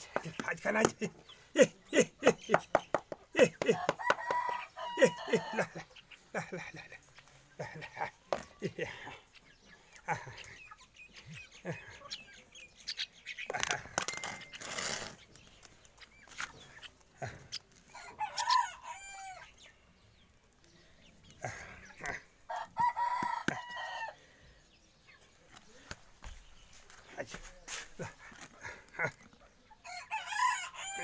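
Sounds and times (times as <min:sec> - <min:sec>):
chickens calling: 0:00.0 - 0:31.0.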